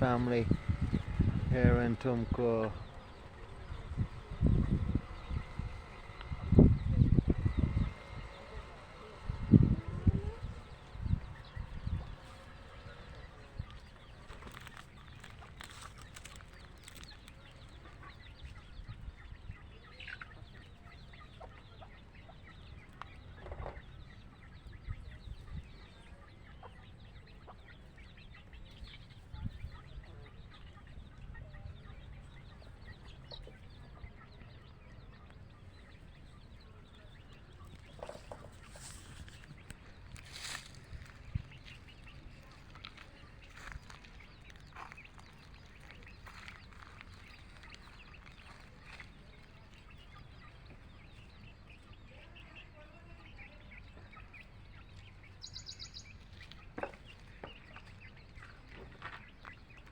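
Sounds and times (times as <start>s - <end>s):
chicks peeping: 0.0s - 59.9s
hens clucking: 0.0s - 59.9s
low background rumble: 0.0s - 59.9s.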